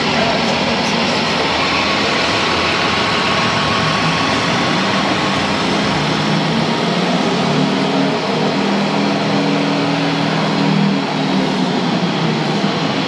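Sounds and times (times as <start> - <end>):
electronic diesel engine sound: 0.0 - 13.0.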